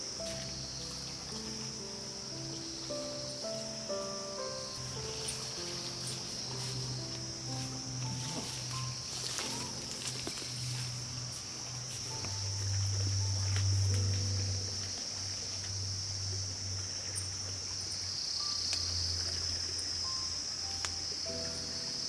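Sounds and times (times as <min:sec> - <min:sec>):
insects buzzing: 0:00.0 - 0:22.0
soft background music: 0:00.0 - 0:22.0.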